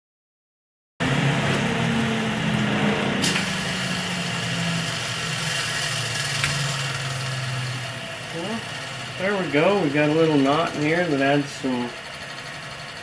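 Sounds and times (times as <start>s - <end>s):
wood lathe motor hum and hiss: 1.0s - 13.0s.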